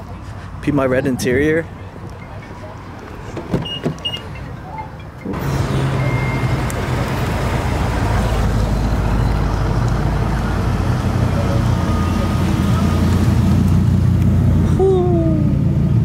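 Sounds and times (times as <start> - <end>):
car engine low rumble: 1.6 - 16.0.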